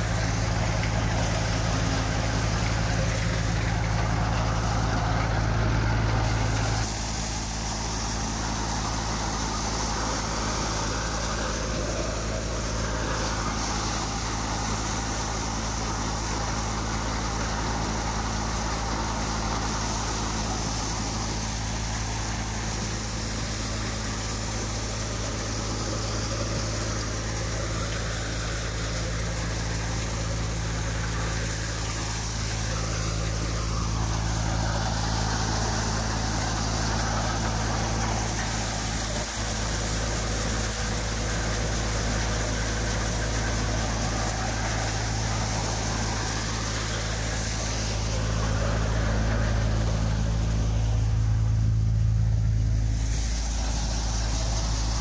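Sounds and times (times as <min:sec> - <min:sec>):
low engine drone: 0:00.0 - 0:55.0
threshing drum hiss: 0:00.0 - 0:55.0.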